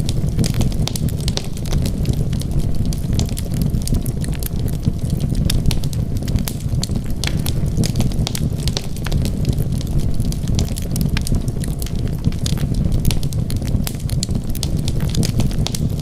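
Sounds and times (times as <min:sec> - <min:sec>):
fire low rumble: 0:00.0 - 0:16.0
logs crackling and popping: 0:00.0 - 0:16.0.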